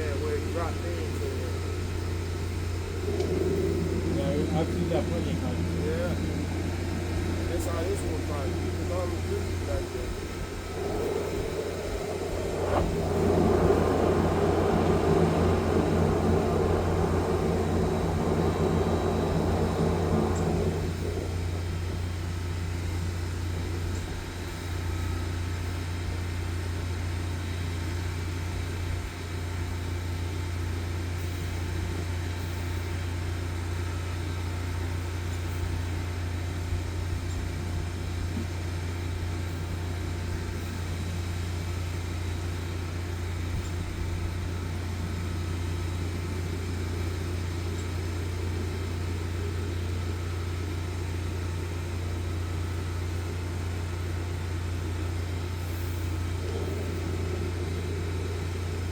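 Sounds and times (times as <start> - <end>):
sewer jetter engine humming: 0.0 - 27.6, 33.7 - 58.9.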